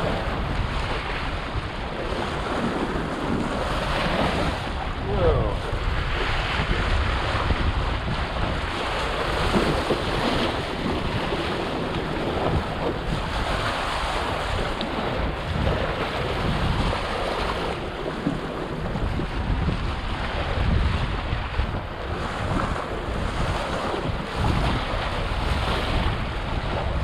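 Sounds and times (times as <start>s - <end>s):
water splashing along hull: 0.0s - 27.0s
wind buffeting microphone: 0.0s - 27.0s.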